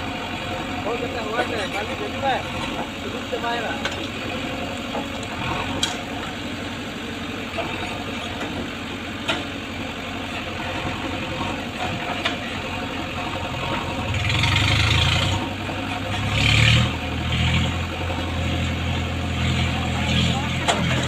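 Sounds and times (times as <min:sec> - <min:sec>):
diesel engine running and revving: 0:00.0 - 0:21.0.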